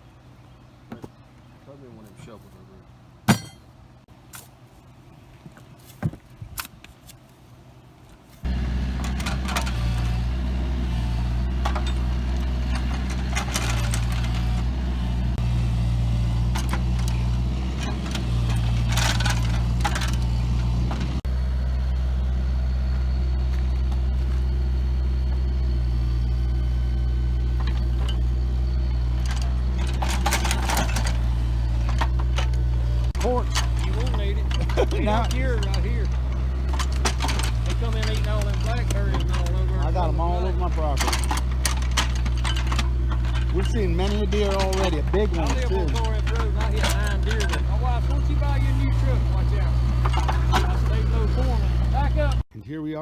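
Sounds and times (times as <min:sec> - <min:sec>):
engine humming: 0:00.0 - 0:52.5
rattles: 0:03.3 - 0:03.8, 0:08.4 - 0:52.4.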